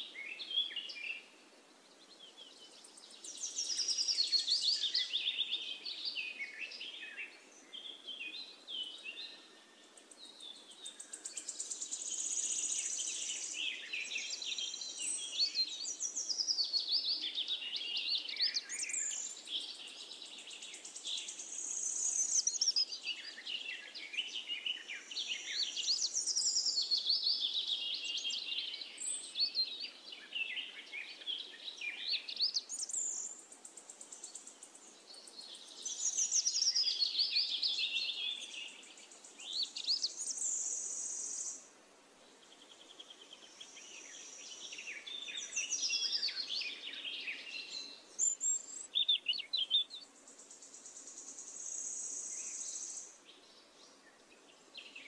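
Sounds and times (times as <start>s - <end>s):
small birds chirping and singing: 0.0s - 55.0s.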